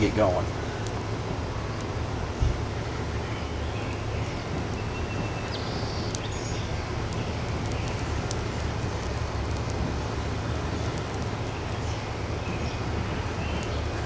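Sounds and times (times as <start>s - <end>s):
steady low rumble: 0.0s - 14.0s
twig fire crackling: 0.0s - 14.0s.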